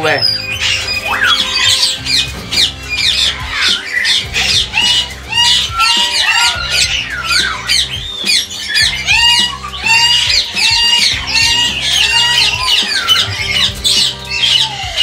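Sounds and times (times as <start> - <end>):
background music with low notes: 0.0 - 15.0
parrots squawking and chirping: 0.0 - 15.0.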